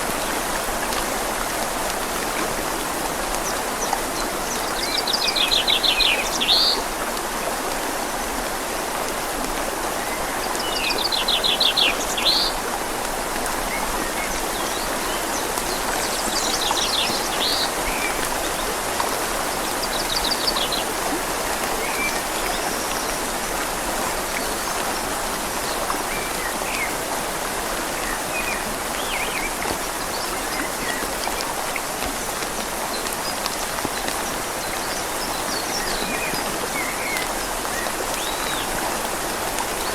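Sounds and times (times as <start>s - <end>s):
rain falling on leaves: 0.0s - 39.9s
river flowing: 0.0s - 39.9s.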